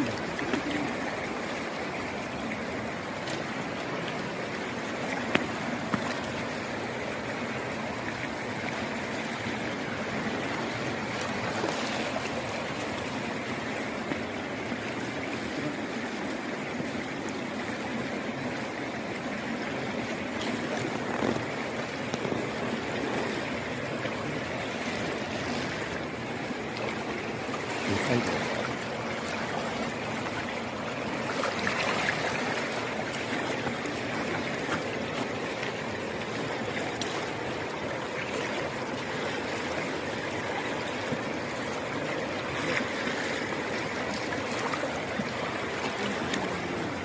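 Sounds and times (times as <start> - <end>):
river water rushing over rocks: 0.0 - 47.0.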